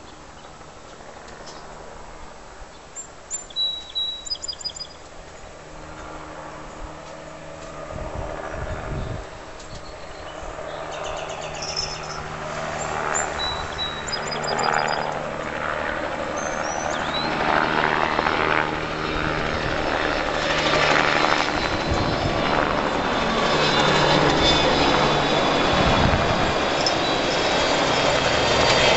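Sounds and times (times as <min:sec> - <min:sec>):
low-flying aircraft engine drone: 0:00.0 - 0:28.9.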